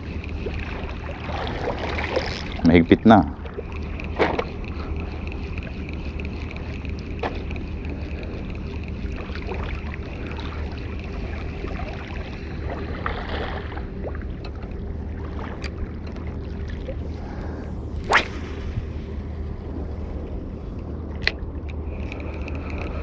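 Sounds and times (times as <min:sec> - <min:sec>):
water lapping at shore: 0:00.0 - 0:23.0
wind rumbling on microphone: 0:00.0 - 0:23.0.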